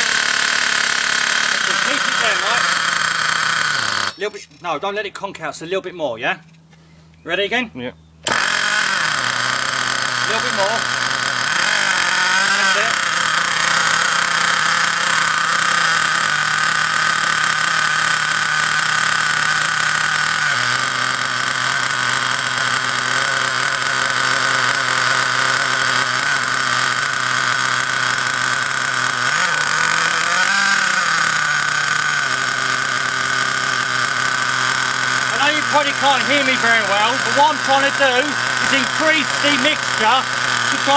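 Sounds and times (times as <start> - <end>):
nitro engine fast idle: 0.0 - 4.4, 8.2 - 40.9.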